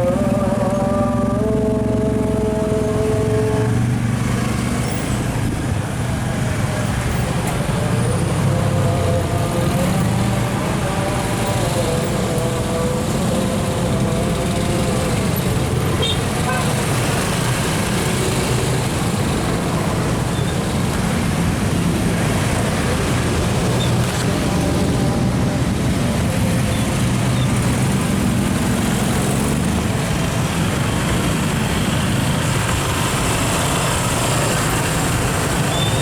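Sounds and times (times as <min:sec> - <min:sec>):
traffic jam engines idling: 0:00.0 - 0:36.0.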